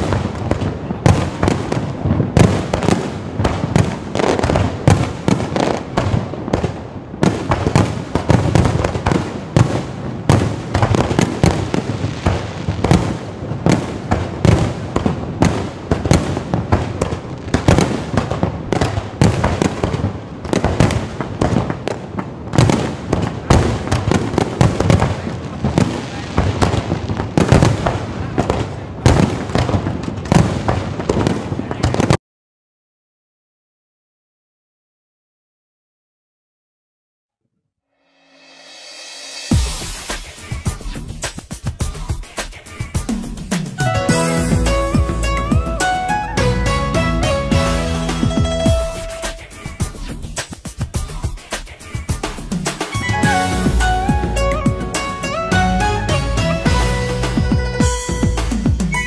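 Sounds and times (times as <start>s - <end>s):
firecrackers cracking: 0.0s - 32.2s, 38.4s - 59.0s.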